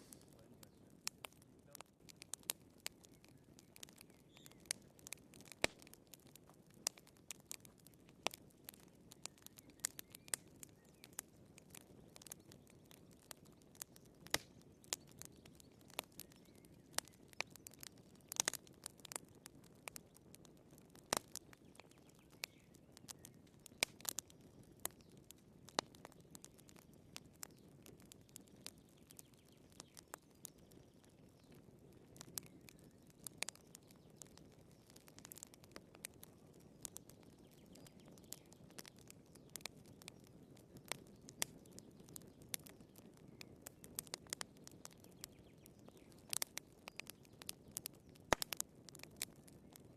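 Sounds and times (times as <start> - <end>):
firewood crackling in fireplace: 0.0 - 49.9.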